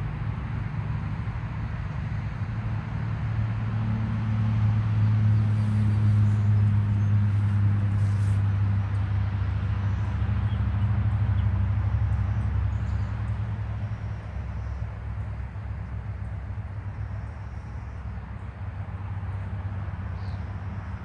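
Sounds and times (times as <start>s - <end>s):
road and wind noise: 0.0s - 21.0s
vehicle engine hum: 0.0s - 21.0s.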